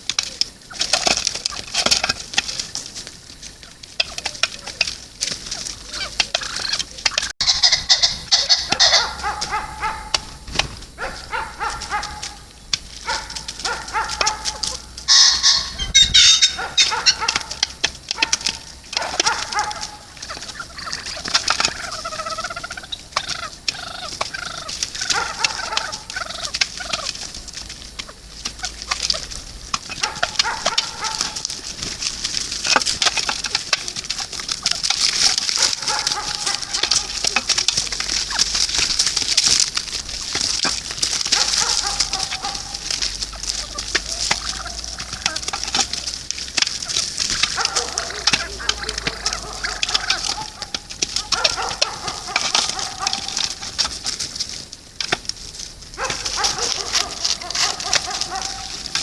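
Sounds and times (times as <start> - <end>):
fowl calling: 0.0 - 59.0.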